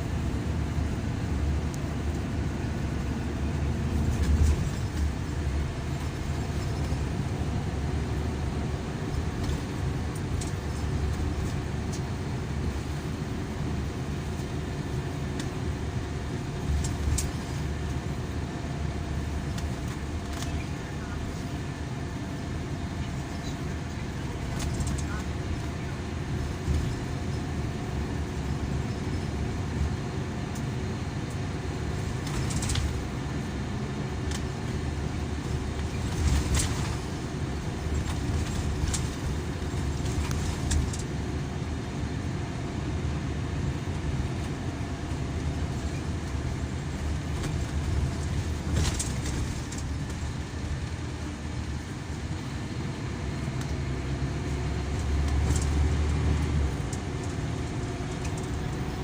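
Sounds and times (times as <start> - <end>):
coach engine and road drone: 0.0 - 59.0.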